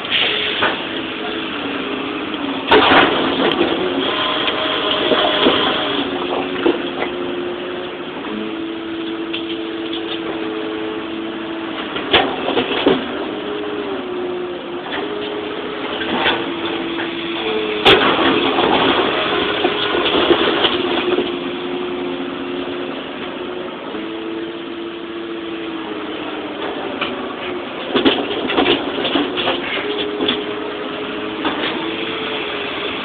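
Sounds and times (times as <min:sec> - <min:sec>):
excavator engine and hydraulics: 0:00.0 - 0:33.0
rubble and bucket clattering: 0:00.1 - 0:11.0, 0:11.6 - 0:13.7, 0:14.4 - 0:23.5, 0:26.5 - 0:33.0.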